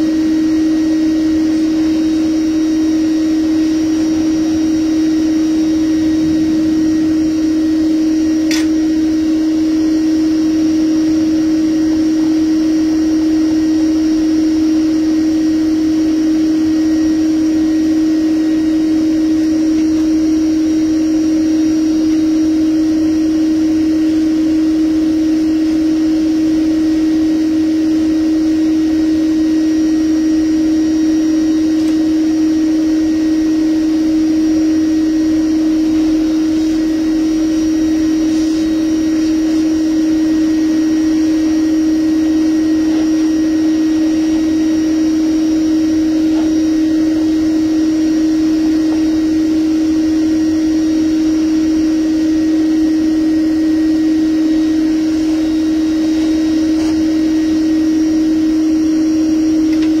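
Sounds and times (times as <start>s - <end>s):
bee vacuum humming: 0.0s - 60.0s.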